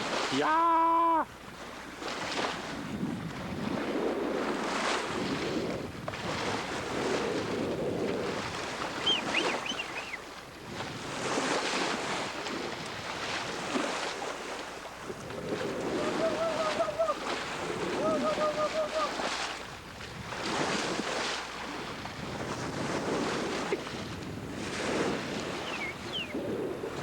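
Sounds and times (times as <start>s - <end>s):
water splashing along boat hull: 0.0s - 27.0s
wind buffeting microphone: 2.0s - 27.0s.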